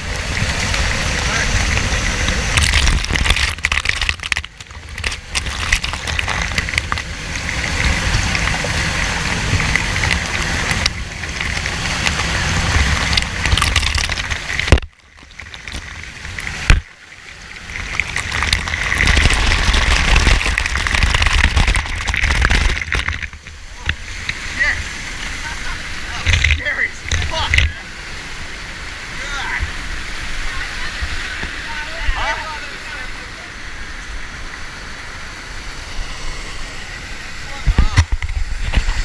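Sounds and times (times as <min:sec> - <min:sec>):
waterfall pouring: 0:00.0 - 0:39.0.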